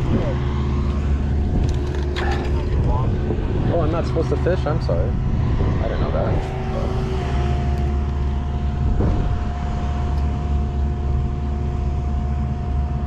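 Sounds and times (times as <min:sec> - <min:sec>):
engine-like hum: 0:00.0 - 0:13.0.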